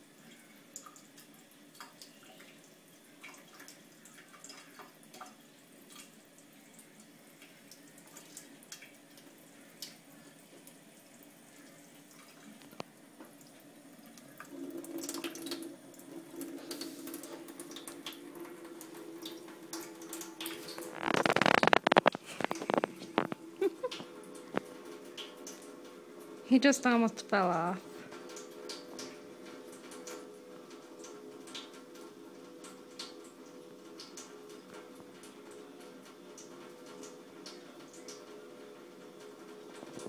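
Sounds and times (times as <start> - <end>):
water drips and splashes: 0.0 - 40.0
tap water running into sink: 0.8 - 40.0.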